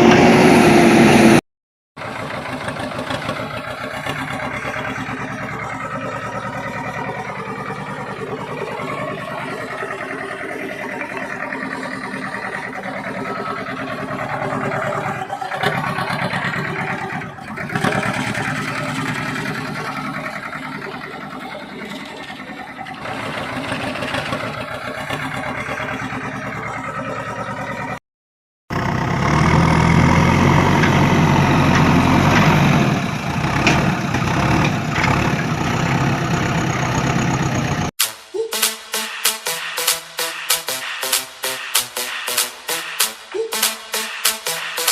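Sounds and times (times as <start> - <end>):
engine running: 0.0 - 1.4, 2.0 - 28.0, 28.7 - 37.9.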